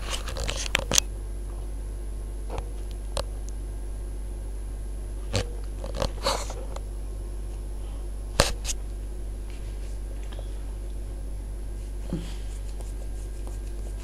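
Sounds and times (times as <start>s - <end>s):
washing machine drum humming: 0.0s - 14.0s.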